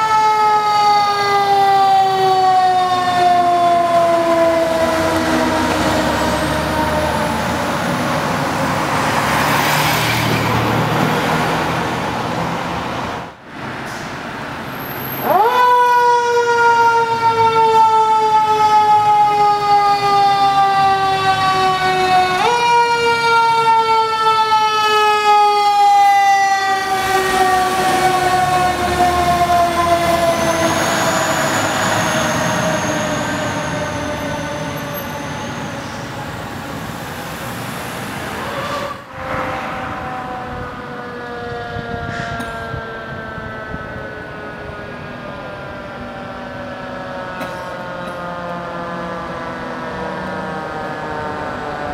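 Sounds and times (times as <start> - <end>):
truck engine: 0.0 - 15.4, 16.2 - 51.9
fire engine siren wailing: 0.0 - 51.9.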